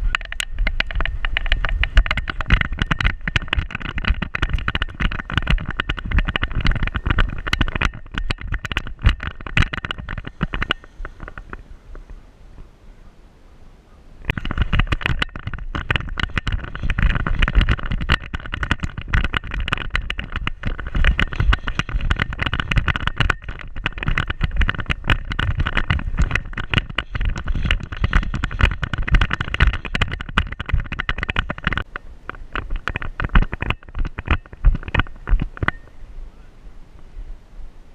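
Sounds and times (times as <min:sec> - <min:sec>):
camera knocking: 0:00.0 - 0:12.1, 0:14.3 - 0:35.9.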